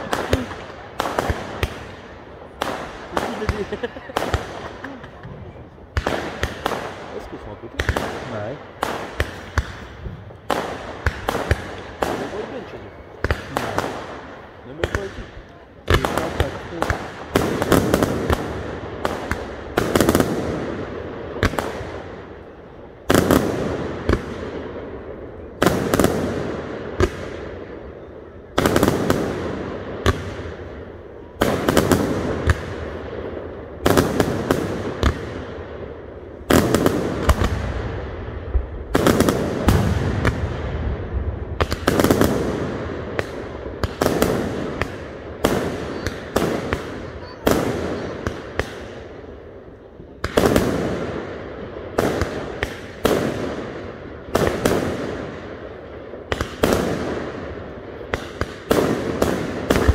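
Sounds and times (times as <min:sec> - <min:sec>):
firework pops and crackles: 0:00.0 - 0:22.4, 0:31.4 - 0:40.8, 0:41.5 - 0:59.9.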